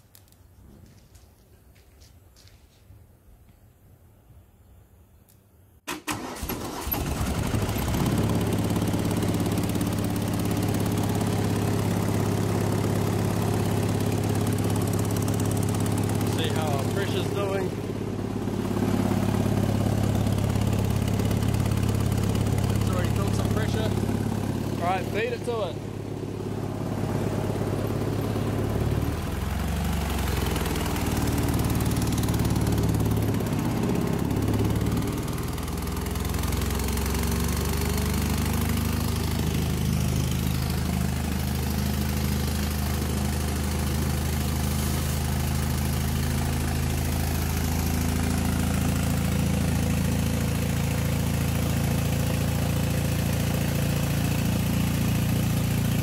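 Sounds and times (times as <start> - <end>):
air compressor engine idling: 7.0 - 56.0.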